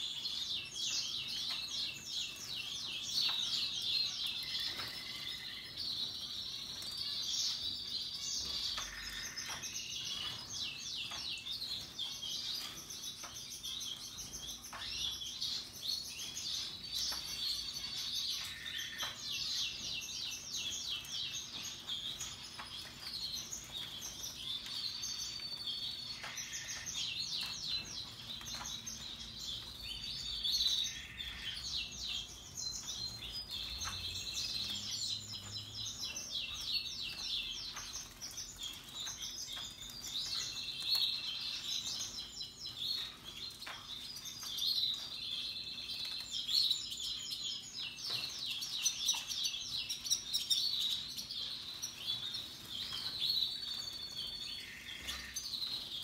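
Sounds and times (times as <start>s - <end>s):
canaries singing: 0.0s - 56.0s.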